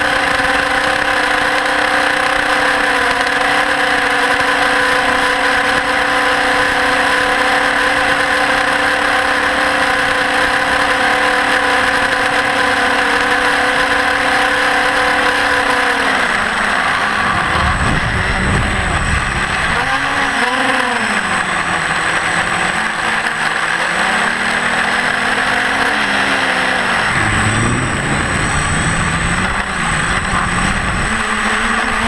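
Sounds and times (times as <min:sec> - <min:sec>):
electric motor and propeller humming: 0:00.0 - 0:32.0.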